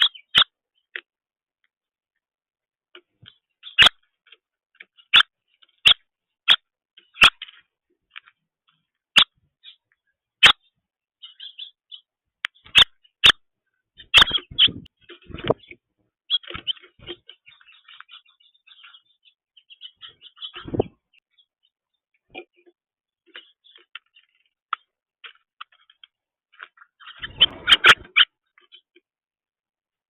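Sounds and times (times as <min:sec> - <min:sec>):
faint high bird chirps: 0:00.0 - 0:01.1, 0:03.0 - 0:29.2
bird ticks: 0:02.9 - 0:29.1.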